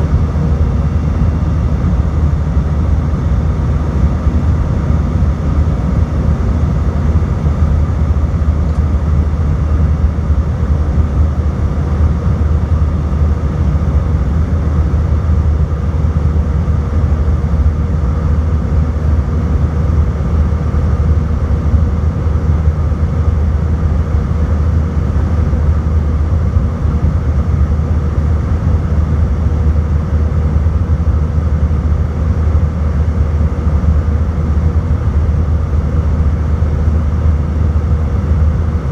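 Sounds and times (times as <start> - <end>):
faint engine whine: 0.0 - 38.9
jet engine drone in cabin: 0.0 - 38.9.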